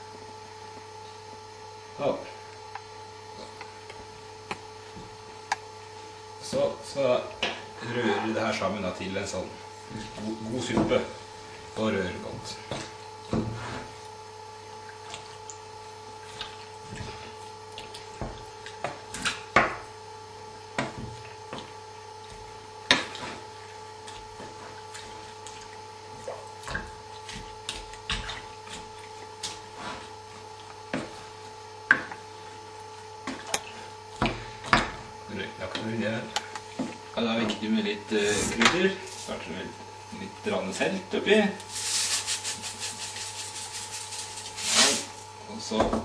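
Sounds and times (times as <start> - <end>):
electrical hum: 0.0 - 46.0.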